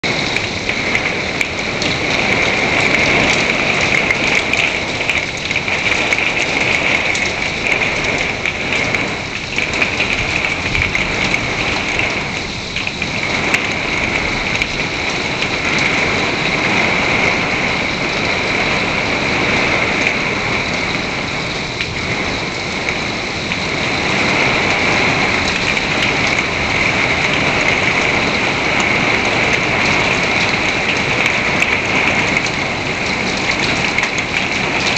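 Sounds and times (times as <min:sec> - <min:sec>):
heavy rain and hail: 0:00.0 - 0:34.9.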